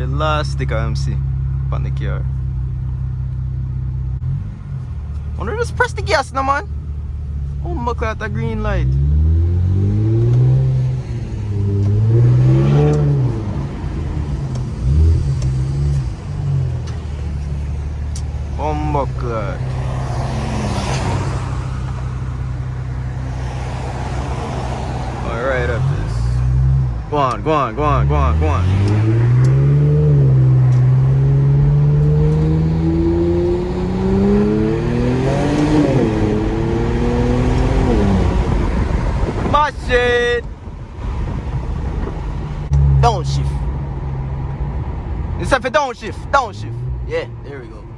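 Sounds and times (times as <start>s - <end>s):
car engine accelerating hard: 0.0s - 47.9s.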